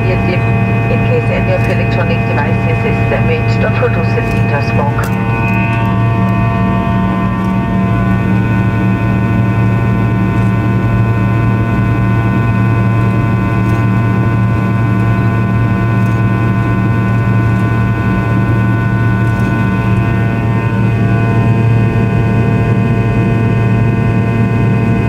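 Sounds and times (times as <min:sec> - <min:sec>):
aircraft cabin deep hum: 0:00.0 - 0:25.0
jet engine whining tones: 0:00.0 - 0:25.0.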